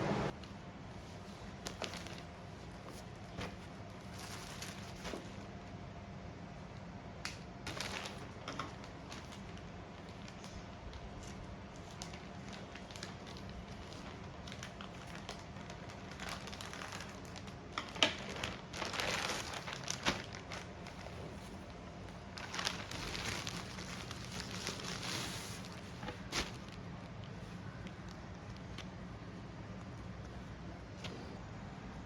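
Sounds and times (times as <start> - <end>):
steady low hum: 0.0 - 32.0
crinkling and rustling: 0.4 - 5.5, 7.3 - 29.0.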